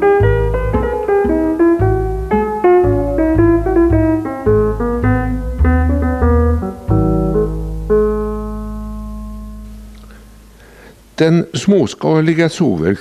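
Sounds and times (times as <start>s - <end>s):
keyboard chords: 0.0s - 10.8s.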